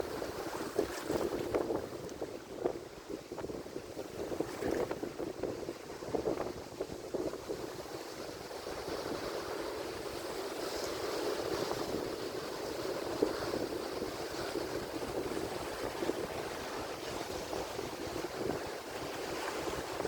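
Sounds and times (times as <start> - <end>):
surf breaking on shore: 0.0 - 20.0.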